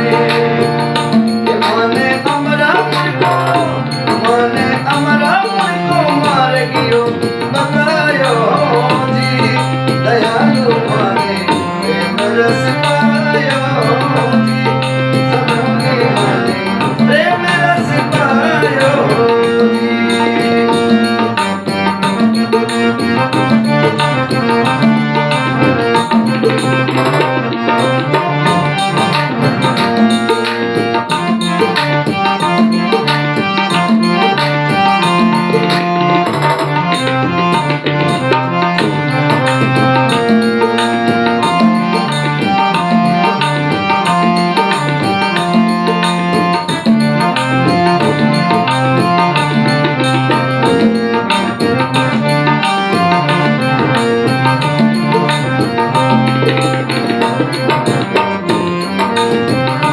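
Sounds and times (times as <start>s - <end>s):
hand drum rhythm: 0.0s - 59.9s
keyboard melody of held notes: 0.0s - 59.9s.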